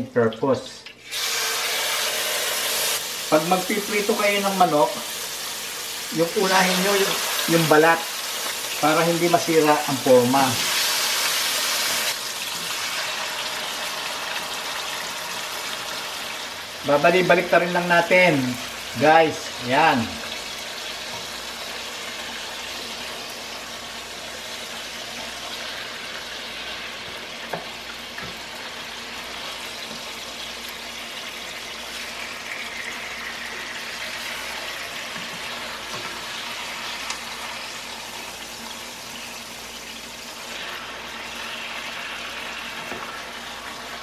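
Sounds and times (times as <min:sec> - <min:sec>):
chicken sizzling in oil: 0:01.0 - 0:44.0.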